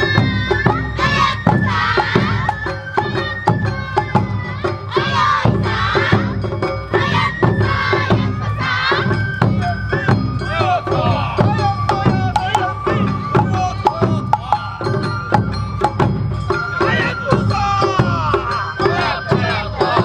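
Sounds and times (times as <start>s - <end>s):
bamboo flute melody: 0.0s - 20.0s
sharp percussion strikes: 0.0s - 20.0s
steady drumming: 0.0s - 20.0s.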